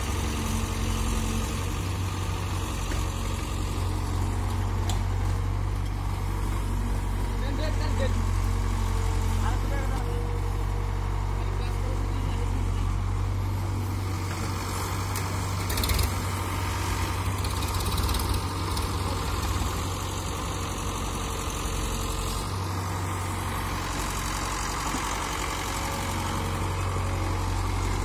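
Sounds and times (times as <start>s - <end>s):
excavator diesel engine: 0.0s - 28.0s
tractor idling: 0.0s - 28.0s.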